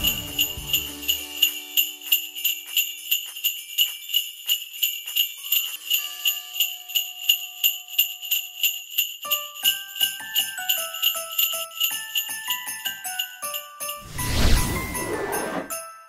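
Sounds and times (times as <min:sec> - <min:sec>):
sleigh bells jingling: 0:00.0 - 0:16.0.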